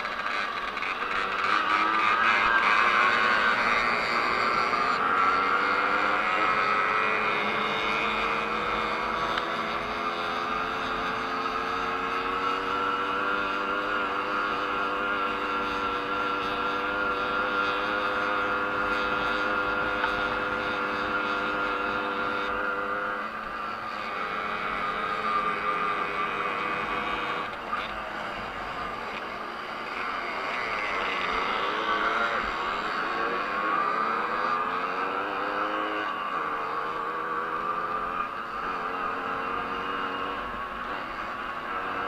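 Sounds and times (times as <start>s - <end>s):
two-stroke moped engine revving: 0.0s - 42.0s.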